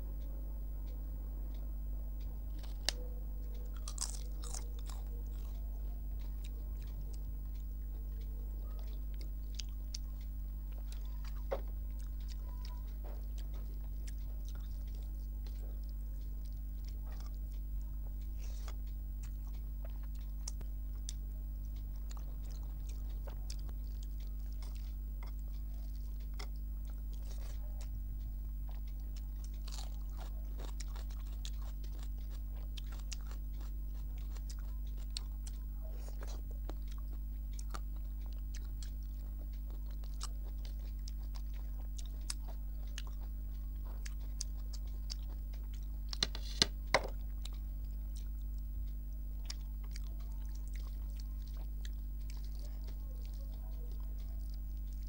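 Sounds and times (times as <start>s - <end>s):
chewing and crunching: 0.0s - 55.0s
low hum: 0.0s - 55.0s.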